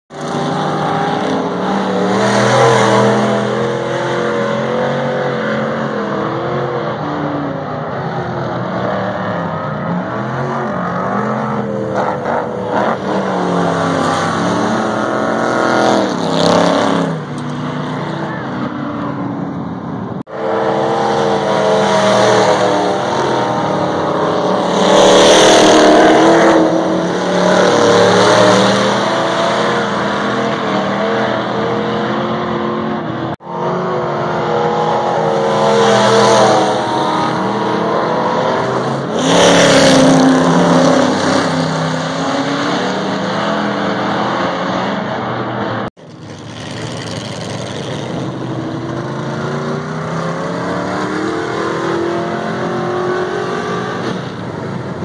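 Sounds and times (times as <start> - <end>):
stock car engines racing: 0.1 - 55.0.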